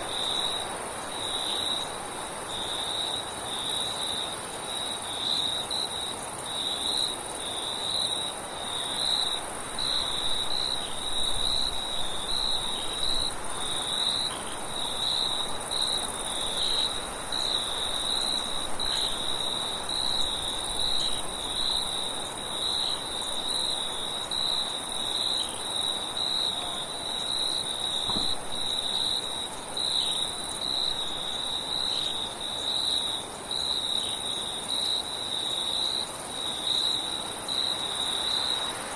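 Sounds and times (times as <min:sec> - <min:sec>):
high-pitched cricket trill: 0:00.0 - 0:38.8
crickets trilling: 0:00.0 - 0:38.9.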